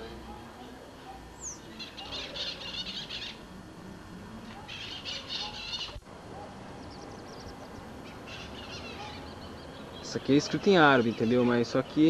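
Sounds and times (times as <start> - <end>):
birds chattering: 0.0 - 3.6, 4.4 - 12.0.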